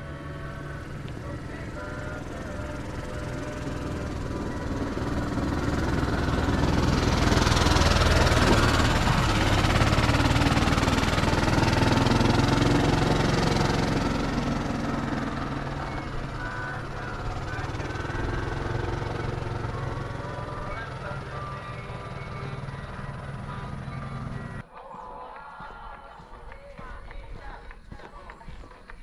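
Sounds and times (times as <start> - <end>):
small cart engine passing: 0.0 - 29.0.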